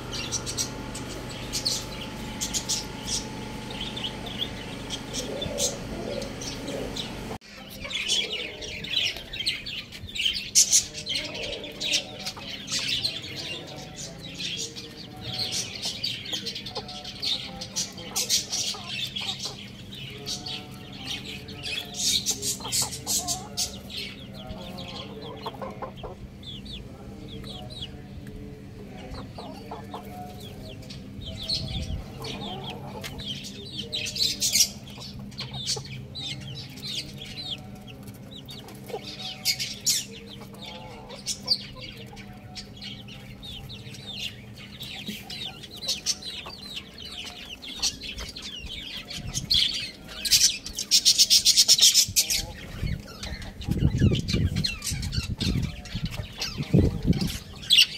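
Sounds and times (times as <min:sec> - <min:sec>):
chicks peeping: 0:00.0 - 0:57.9
roosters clucking: 0:00.0 - 0:57.9.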